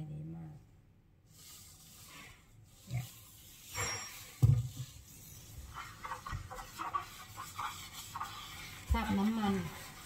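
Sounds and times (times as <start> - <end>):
sponge scrubbing glass cooktop: 1.3 - 10.0.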